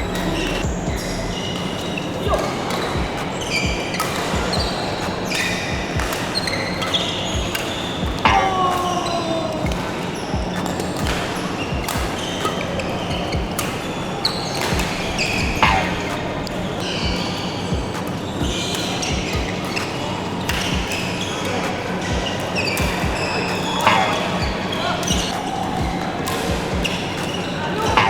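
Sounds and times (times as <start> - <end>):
shoes squeaking on court floor: 0.1 - 28.0
racket hitting shuttlecock: 1.5 - 28.0.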